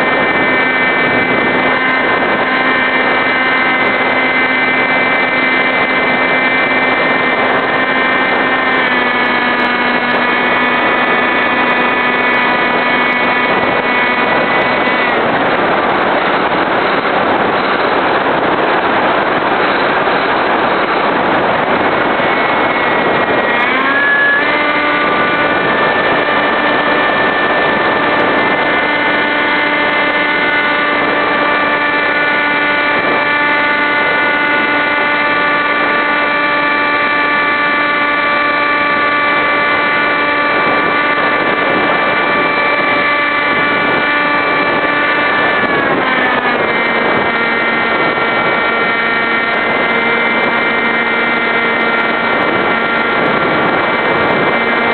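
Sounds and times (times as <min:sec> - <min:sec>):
electric motor buzzing whine: 0:00.0 - 0:54.9
rushing wind: 0:00.0 - 0:54.9.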